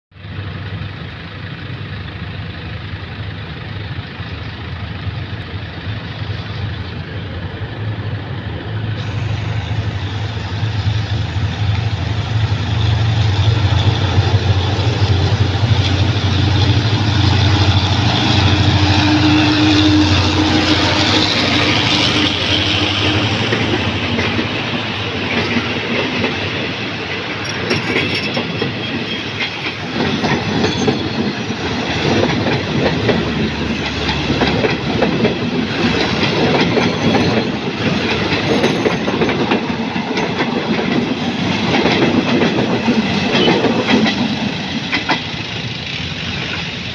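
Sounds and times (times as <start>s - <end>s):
diesel locomotive engine hum: 0.1s - 46.9s
train wheels clicking over rails: 1.5s - 46.9s.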